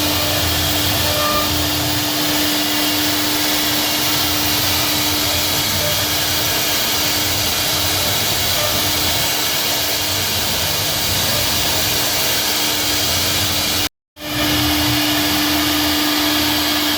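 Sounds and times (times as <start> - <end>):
loud hiss: 0.0 - 16.9
router spindle whining: 0.0 - 16.9.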